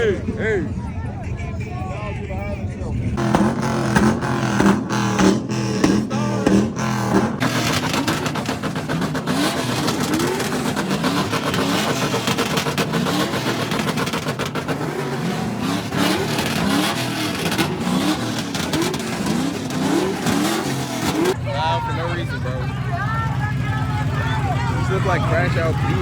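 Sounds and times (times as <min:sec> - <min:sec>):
car engines revving: 0:00.0 - 0:26.0
dense engine rumble: 0:00.0 - 0:26.0.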